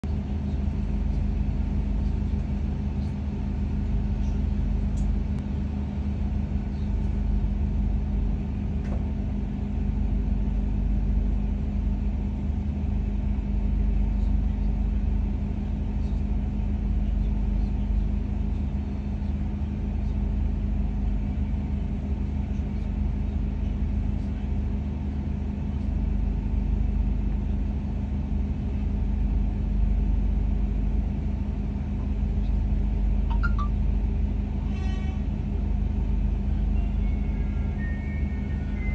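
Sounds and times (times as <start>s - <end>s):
train carriage hum and rumble: 0.0s - 38.9s.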